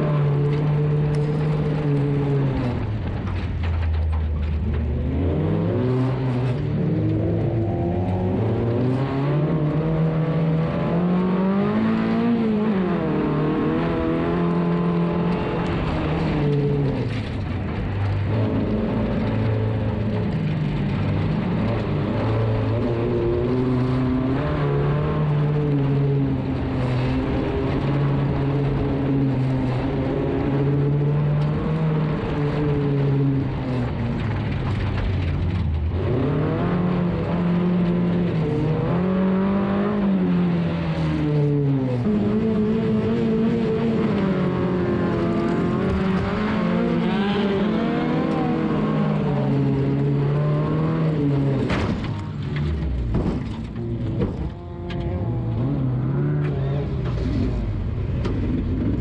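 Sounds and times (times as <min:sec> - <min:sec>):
race car engine revving: 0:00.0 - 0:59.0
road and tyre rumble: 0:00.0 - 0:59.0.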